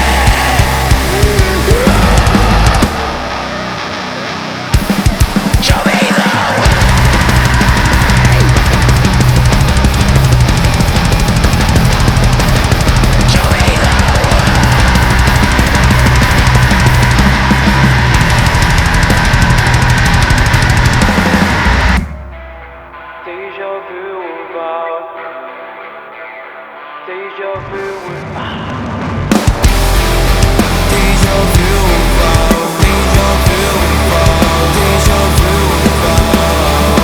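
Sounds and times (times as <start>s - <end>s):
drum kit: 0.0s - 23.1s, 27.7s - 37.0s
heavy rock music: 0.0s - 37.0s.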